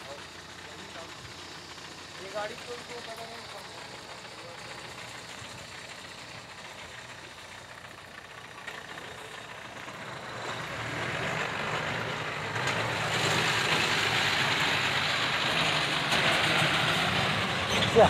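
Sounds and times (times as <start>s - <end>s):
truck diesel engine: 0.0s - 18.0s.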